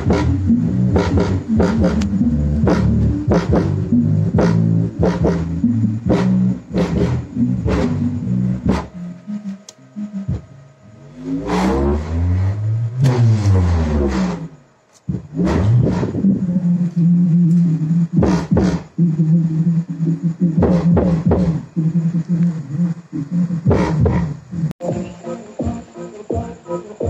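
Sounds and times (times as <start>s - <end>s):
loud music with heavy bass beat: 0.0s - 27.0s.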